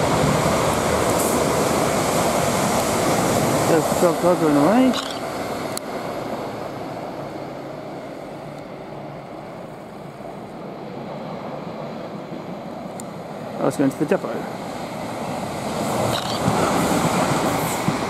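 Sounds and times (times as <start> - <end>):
electric trains rumbling: 0.0 - 18.0.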